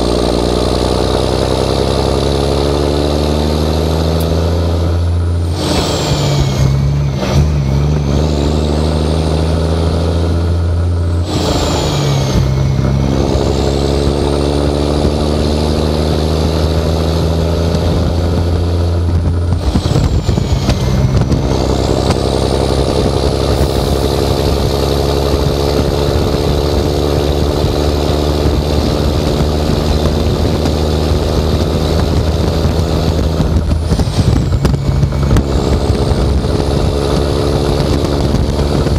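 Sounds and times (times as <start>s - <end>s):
diesel engine under heavy load: 0.0s - 38.9s.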